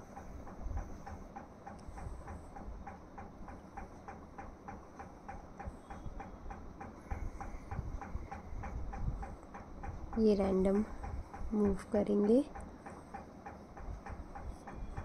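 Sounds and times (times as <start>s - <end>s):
steady ticking: 0.0s - 15.0s.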